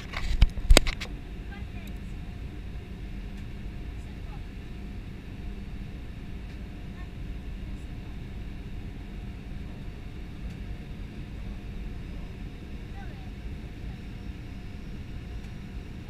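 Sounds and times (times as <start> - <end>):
aircraft engine hum: 0.0 - 16.0
faint steady tone: 1.1 - 16.0.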